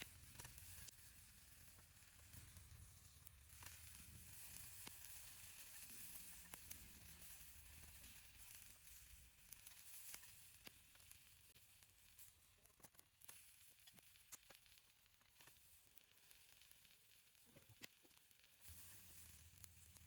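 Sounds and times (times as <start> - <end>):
fire crackles: 0.0 - 20.0
food sizzling over wood fire: 0.0 - 20.0.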